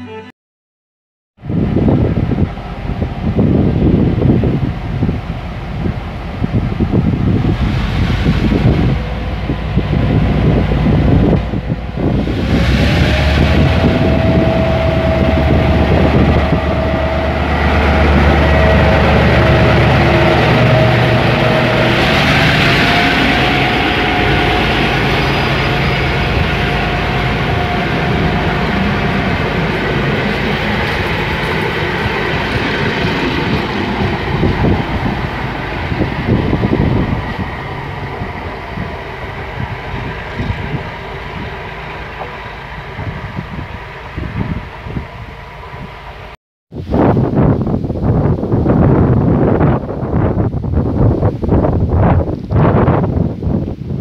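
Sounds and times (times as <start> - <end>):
steady train whine: 1.4 - 53.5
diesel locomotive engine rumble: 1.4 - 54.0
train coaches rushing by: 1.6 - 46.4.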